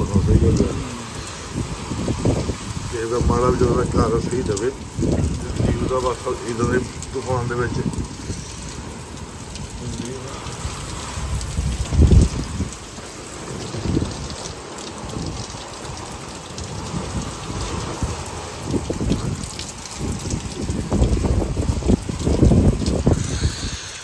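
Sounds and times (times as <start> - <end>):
heavy rain pouring: 0.0 - 24.0
low rumbling wind or thunder: 0.0 - 24.0.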